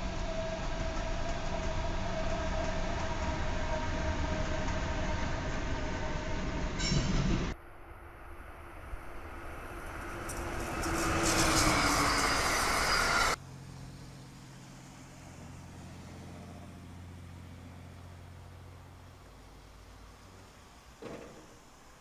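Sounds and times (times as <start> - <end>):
train rushing past with whine: 0.0 - 19.1.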